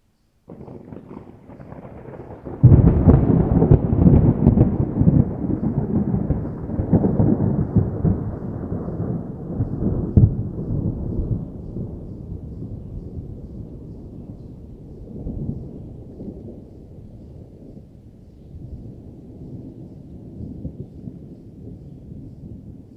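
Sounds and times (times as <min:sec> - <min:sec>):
distant thunder rumbling: 0:00.5 - 0:22.9.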